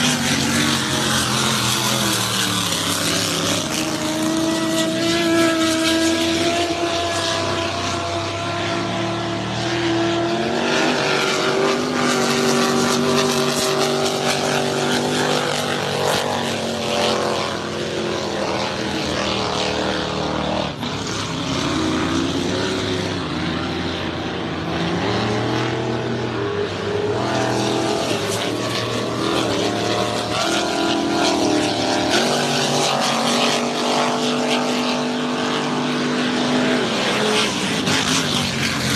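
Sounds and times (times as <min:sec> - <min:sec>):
powerboat engines running hard: 0:00.0 - 0:38.9.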